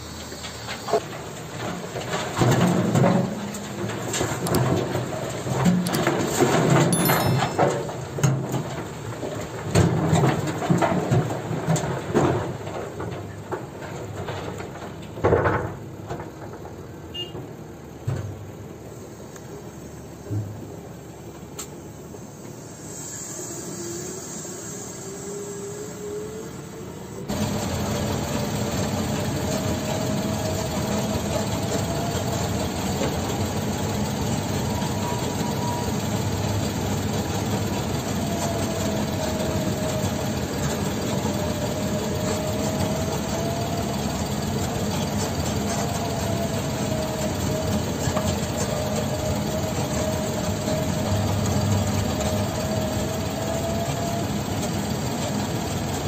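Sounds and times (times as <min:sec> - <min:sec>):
diesel engine working: 0:00.0 - 0:56.0
truck engine droning: 0:00.0 - 0:56.0.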